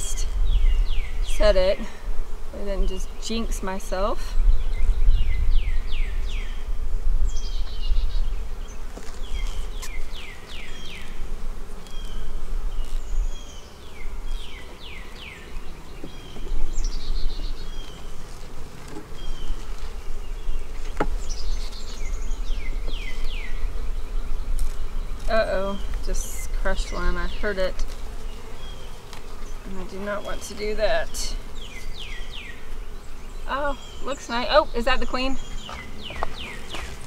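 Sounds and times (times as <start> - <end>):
honeybee colony humming: 0.0 - 37.0.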